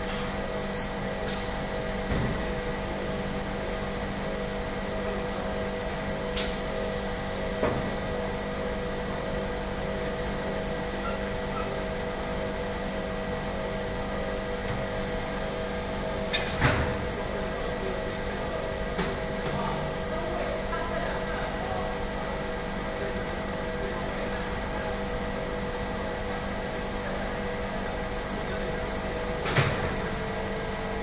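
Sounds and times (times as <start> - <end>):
welding machine electrical hum: 0.0 - 31.0.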